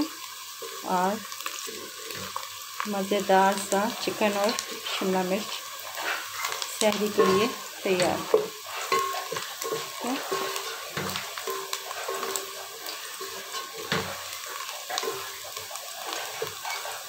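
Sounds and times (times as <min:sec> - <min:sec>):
onions sizzling in oil: 0:00.0 - 0:17.0
wooden spoon scraping pot: 0:00.4 - 0:17.0.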